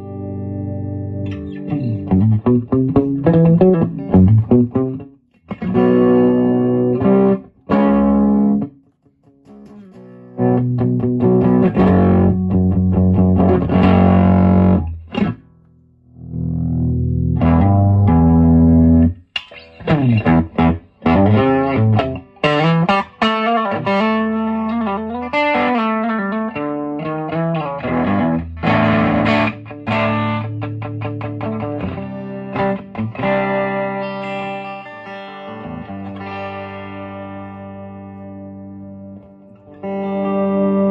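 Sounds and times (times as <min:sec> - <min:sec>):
electric guitar playing: 0:00.0 - 0:15.5, 0:16.1 - 0:40.9.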